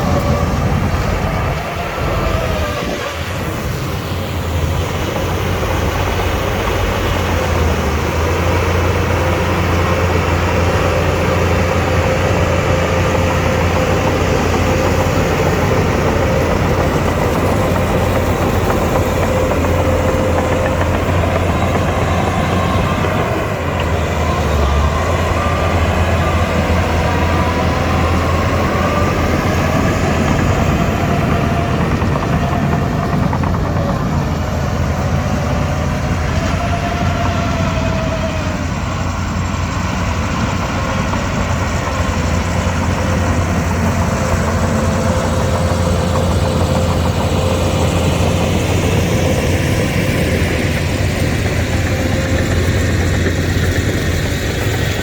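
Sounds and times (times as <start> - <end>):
bulldozer diesel engine drone: 0.0 - 55.0.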